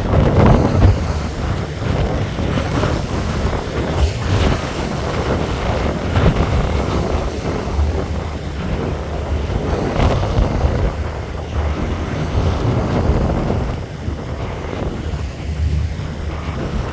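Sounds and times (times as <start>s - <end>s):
boat engine rumble: 0.0s - 16.9s
water noise: 0.0s - 16.9s
wind buffeting microphone: 0.0s - 16.9s.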